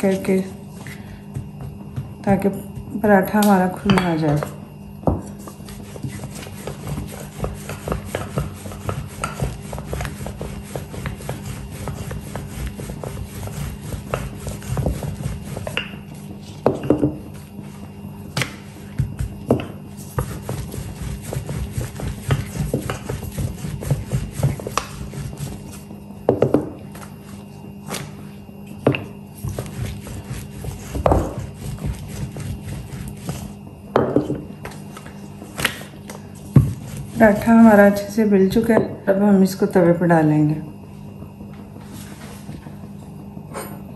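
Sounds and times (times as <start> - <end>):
rolling pin knocking and rubbing: 0.8 - 27.2, 28.7 - 37.9.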